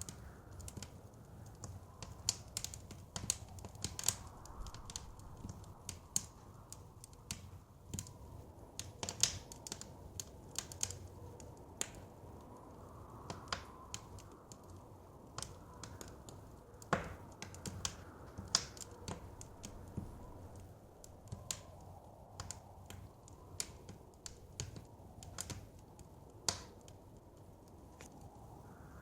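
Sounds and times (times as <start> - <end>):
soft wind: 0.0 - 29.0
wood fire crackling: 0.0 - 29.0.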